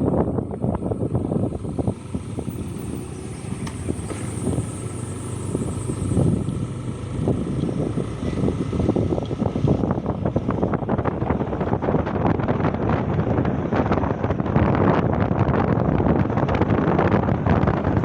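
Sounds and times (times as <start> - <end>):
vehicle running noise: 0.0 - 18.0
wind buffeting microphone: 0.0 - 18.0.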